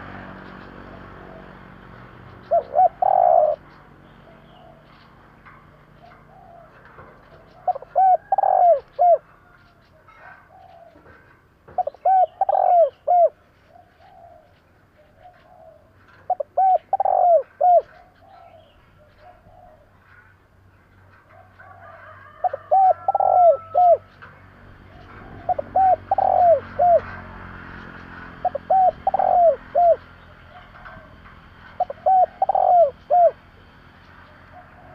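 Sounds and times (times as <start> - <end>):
dove cooing: 0.7 - 20.3, 21.3 - 34.9.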